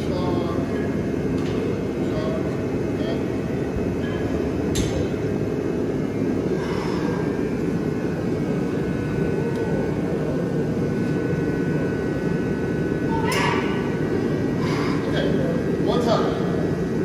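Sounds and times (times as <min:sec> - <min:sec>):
faint high hum: 0:00.0 - 0:17.0
machinery low rumble: 0:00.0 - 0:17.0.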